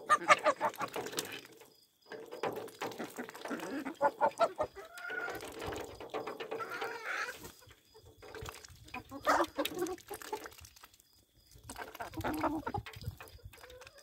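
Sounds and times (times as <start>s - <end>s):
hens clucking: 0.0s - 10.6s, 11.6s - 14.0s.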